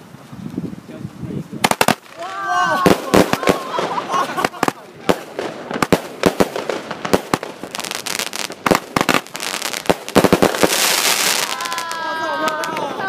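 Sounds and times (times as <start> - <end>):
fireworks crackling: 1.5 - 13.0
fireworks banging: 1.6 - 13.0.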